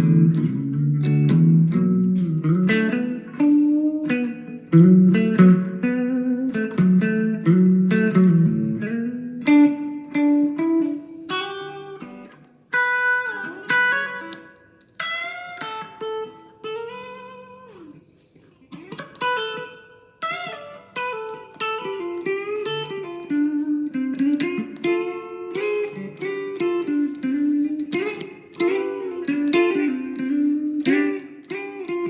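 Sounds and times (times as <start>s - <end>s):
guitar plucked notes and chords: 0.0s - 32.0s.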